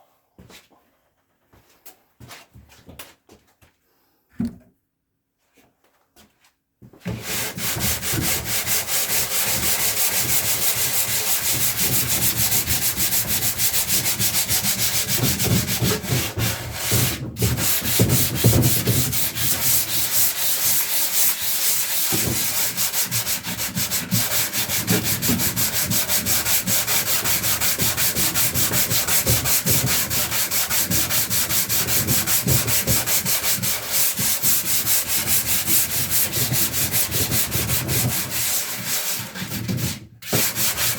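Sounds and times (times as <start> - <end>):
sandpaper sanding wood: 7.2 - 40.9.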